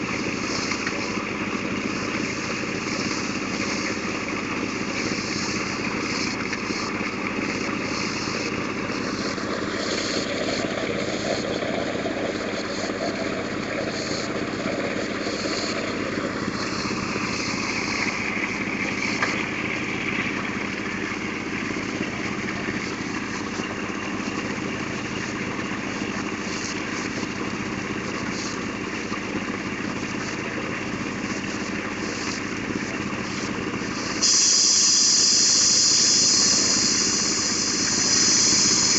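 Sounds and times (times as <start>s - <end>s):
drilling rig mechanical drone: 0.0s - 38.9s
loud steady hiss: 0.0s - 38.9s
splashing and rattle from drilling: 0.0s - 38.9s.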